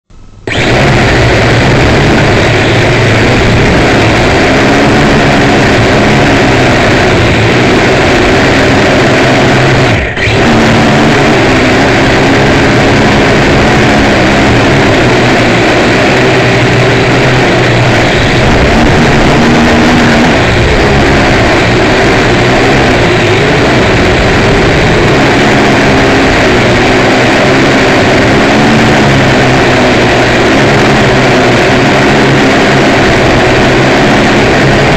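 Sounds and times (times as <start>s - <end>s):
drone motors buzzing: 0.1s - 34.9s
wind noise on microphone: 0.4s - 34.9s.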